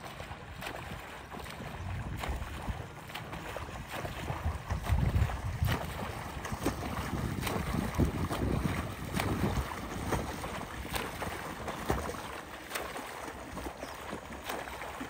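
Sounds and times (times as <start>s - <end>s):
swimmers splashing water: 0.0s - 15.0s.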